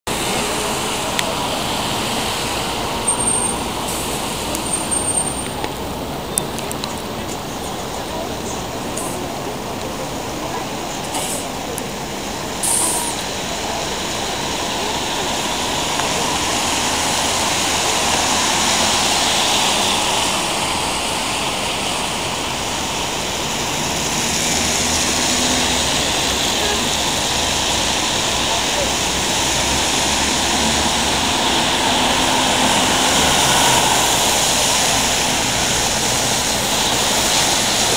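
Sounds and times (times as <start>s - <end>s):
traffic on a wet road: 0.0s - 37.9s.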